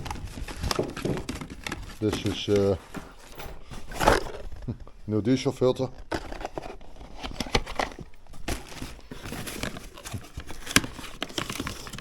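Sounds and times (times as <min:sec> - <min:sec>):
packaging crinkling: 0:00.0 - 0:04.9, 0:06.0 - 0:12.0.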